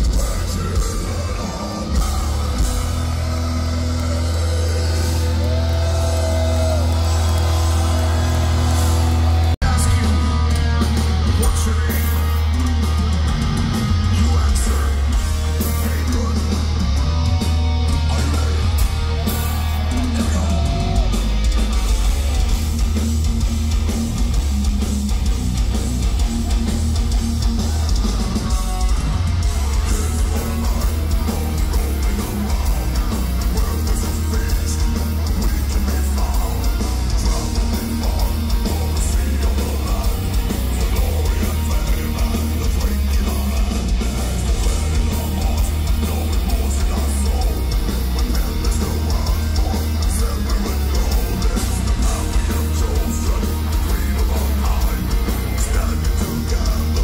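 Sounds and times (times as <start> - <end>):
bass guitar: 0.0 - 57.0
distorted electric guitars: 0.0 - 57.0
drums: 0.0 - 57.0.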